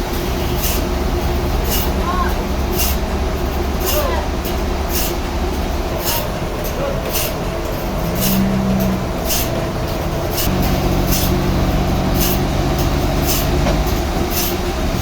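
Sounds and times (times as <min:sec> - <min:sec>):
sawmill machinery droning: 0:00.0 - 0:15.0.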